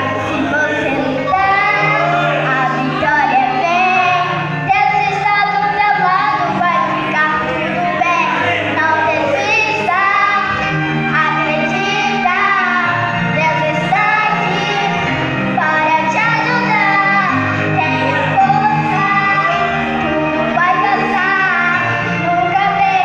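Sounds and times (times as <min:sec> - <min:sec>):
child singing: 0:00.0 - 0:23.0
instrumental backing track: 0:00.0 - 0:23.0.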